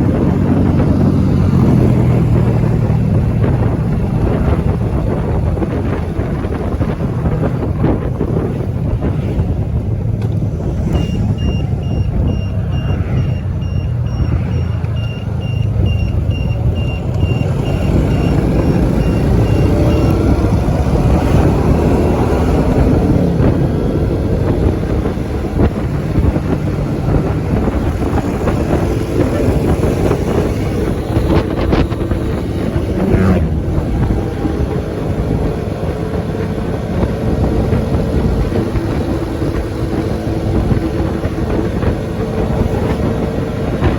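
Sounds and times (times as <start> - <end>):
vehicle engines passing: 0.0 - 43.9.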